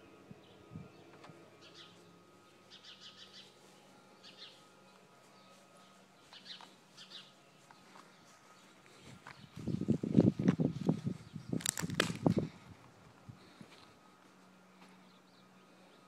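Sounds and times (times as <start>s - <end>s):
low steady background hum: 0.0s - 16.0s
small birds chirping faintly: 0.0s - 16.0s.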